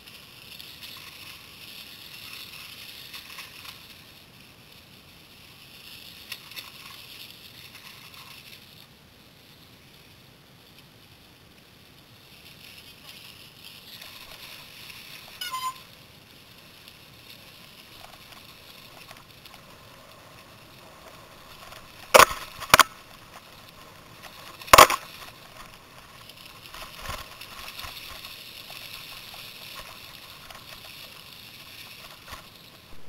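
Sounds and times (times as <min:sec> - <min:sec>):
bike tyres on dirt trail: 0:00.0 - 0:33.0.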